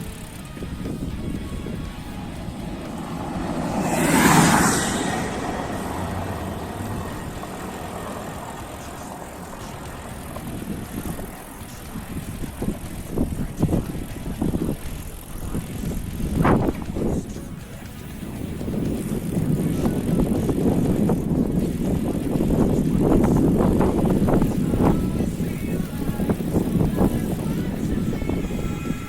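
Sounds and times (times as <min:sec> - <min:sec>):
wind rushing: 0:00.0 - 0:17.3, 0:18.2 - 0:29.0
bicycle road rumble: 0:00.0 - 0:29.0.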